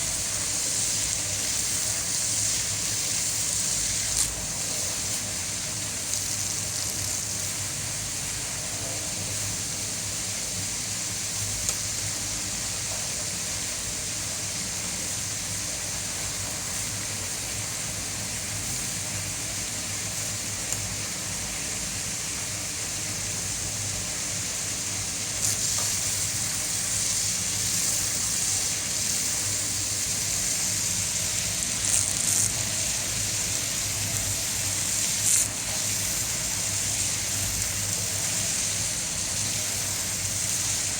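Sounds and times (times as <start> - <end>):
water rushing in a tank: 0.0 - 40.9.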